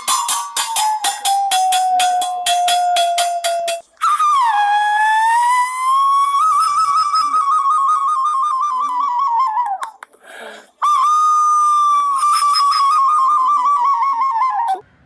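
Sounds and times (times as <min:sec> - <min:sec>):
warbling whistle: 0:00.0 - 0:09.7, 0:10.8 - 0:14.8.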